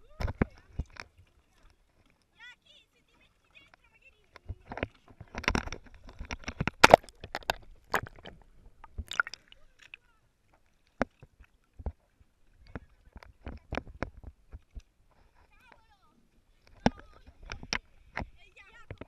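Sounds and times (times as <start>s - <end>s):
water splashing against boat hull: 0.0s - 2.3s, 3.0s - 19.0s.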